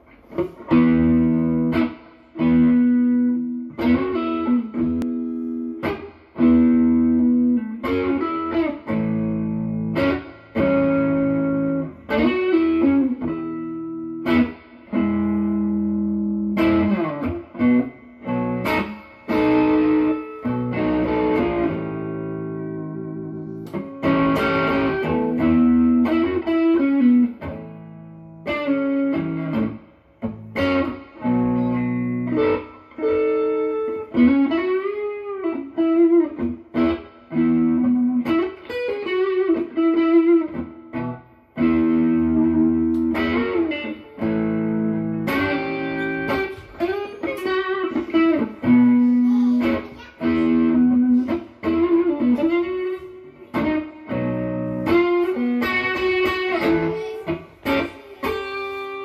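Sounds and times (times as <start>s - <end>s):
electric guitar noodling: 0.0s - 59.0s.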